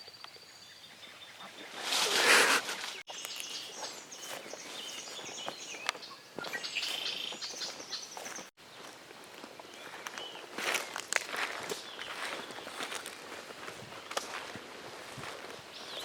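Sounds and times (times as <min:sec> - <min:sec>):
songbirds chirping: 0:00.0 - 0:14.5, 0:15.4 - 0:16.0.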